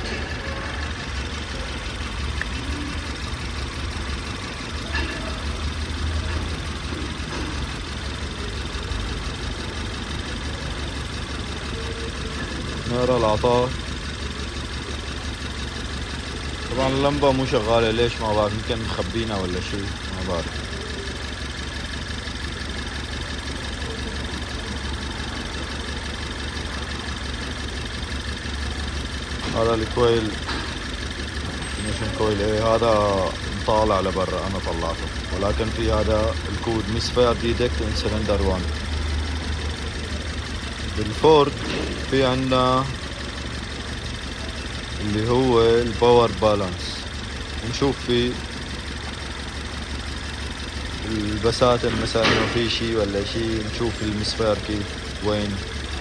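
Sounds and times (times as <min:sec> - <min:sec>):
car engine idling rough: 0:00.0 - 0:56.0.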